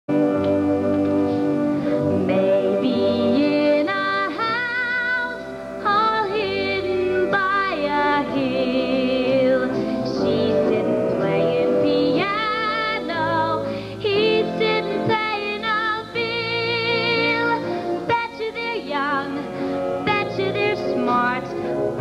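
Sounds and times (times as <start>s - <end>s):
instrumental accompaniment: 0.1s - 22.0s
woman singing into microphone: 2.3s - 22.0s.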